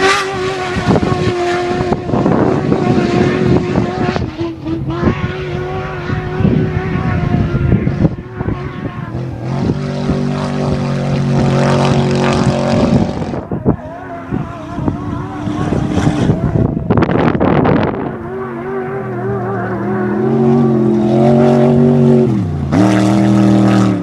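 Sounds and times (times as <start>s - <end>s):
off-road vehicle engines running: 0.0s - 24.0s
vehicle revving hard: 0.0s - 24.0s.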